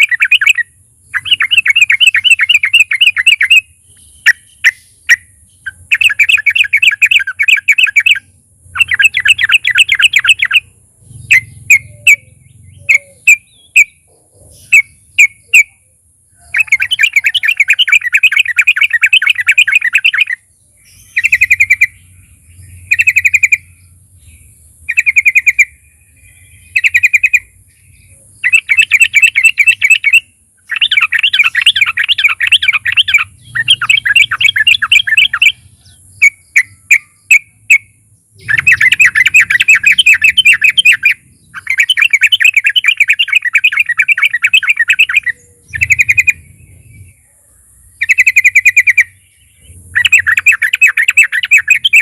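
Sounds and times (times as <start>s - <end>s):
bulbul singing chattering notes: 0.0s - 15.8s, 16.4s - 47.2s, 48.0s - 52.0s.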